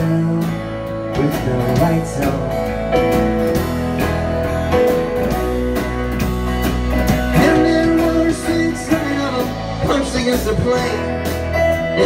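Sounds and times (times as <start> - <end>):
bass guitar: 0.0 - 12.0
drum kit beat: 0.0 - 12.0
electric and acoustic guitars: 0.0 - 12.0.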